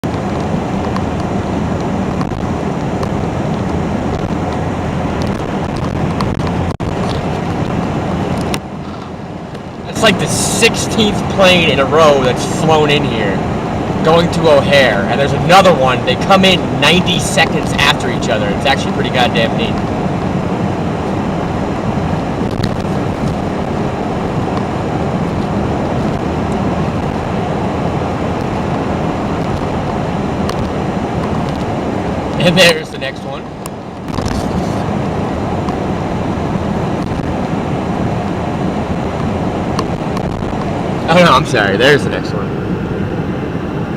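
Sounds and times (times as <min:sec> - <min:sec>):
wind buffeting microphone: 0:00.0 - 0:32.4, 0:33.2 - 0:43.9
jet airliner low rumble: 0:00.0 - 0:43.9
road traffic roar: 0:00.0 - 0:43.9.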